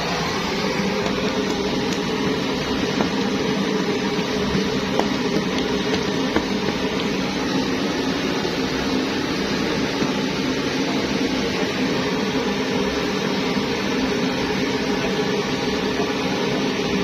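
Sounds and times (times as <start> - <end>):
stove burning with rushing noise: 0.0 - 17.0.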